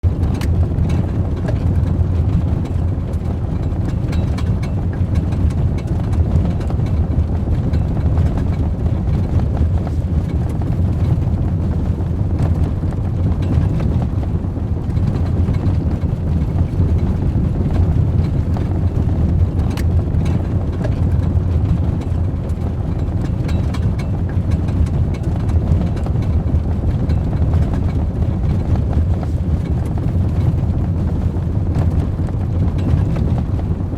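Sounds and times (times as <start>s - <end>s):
truck engine idling rumble: 0.0s - 33.9s.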